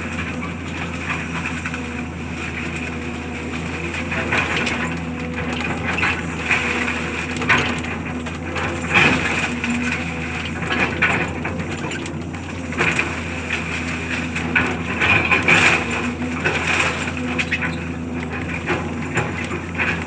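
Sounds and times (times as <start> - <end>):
debris crunching and cracking: 0.0 - 20.0
heavy machine engine running: 0.0 - 20.0.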